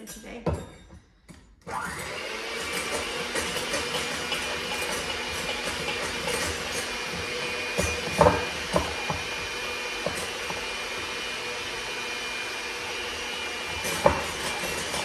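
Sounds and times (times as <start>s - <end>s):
electric hand mixer running: 1.6s - 15.0s.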